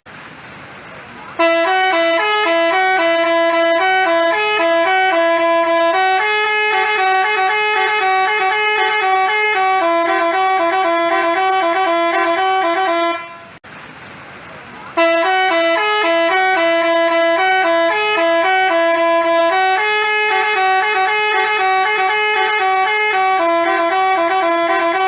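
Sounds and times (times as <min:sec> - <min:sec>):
musical bus horn melody: 0:01.4 - 0:13.6, 0:15.0 - 0:25.0.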